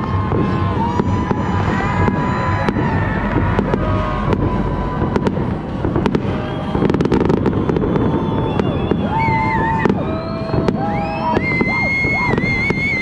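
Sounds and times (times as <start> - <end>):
fireworks popping and crackling: 0.0 - 13.0
low rumble: 0.0 - 13.0.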